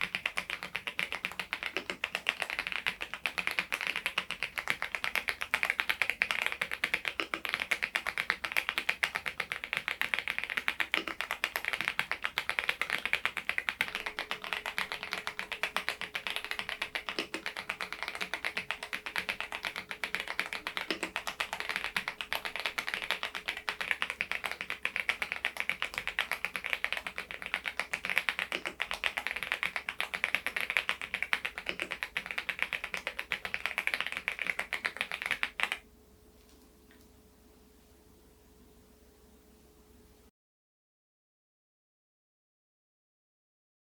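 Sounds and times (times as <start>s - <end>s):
mechanical keyboard typing: 0.0s - 35.8s.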